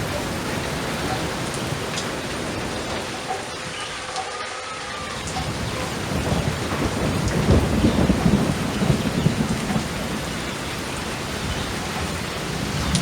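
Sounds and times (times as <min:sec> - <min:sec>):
thunder rumbling: 0:00.0 - 0:04.2, 0:04.9 - 0:13.0
steady rain: 0:00.0 - 0:13.0.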